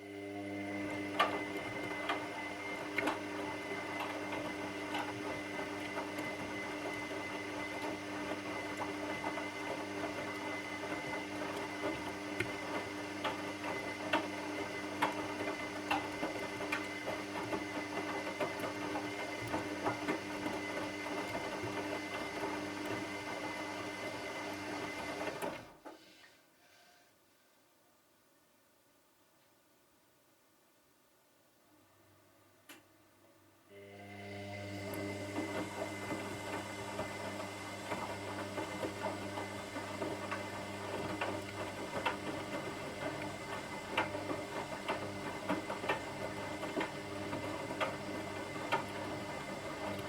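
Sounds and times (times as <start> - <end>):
washing machine running: 0.0 - 25.8, 33.7 - 50.0.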